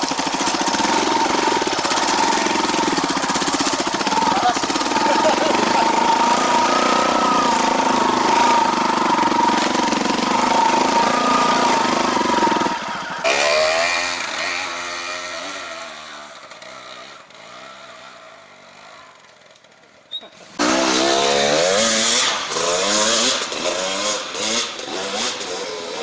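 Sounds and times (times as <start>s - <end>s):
motorcycle engine running: 0.0s - 26.0s
motorcycle revving: 0.0s - 26.0s.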